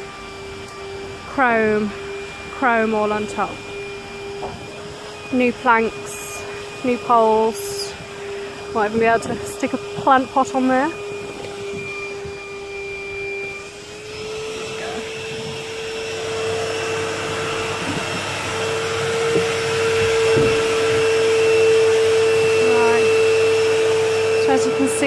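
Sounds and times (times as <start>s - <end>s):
vacuum sucking debris and water: 0.0s - 25.0s.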